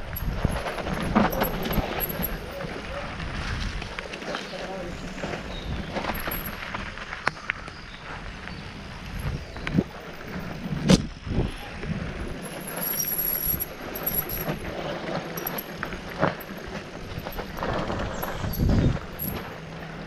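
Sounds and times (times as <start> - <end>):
bike tyres rumbling on rock: 0.0 - 20.0
bike wheels knocking rocks: 0.0 - 20.0.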